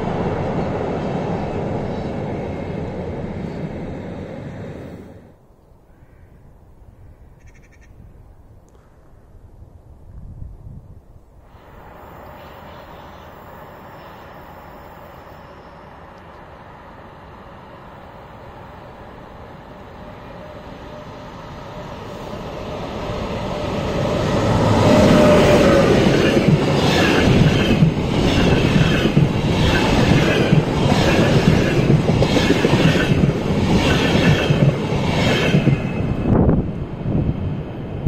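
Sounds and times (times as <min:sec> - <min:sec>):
passenger train passing: 0:00.0 - 0:05.4, 0:11.3 - 0:38.0.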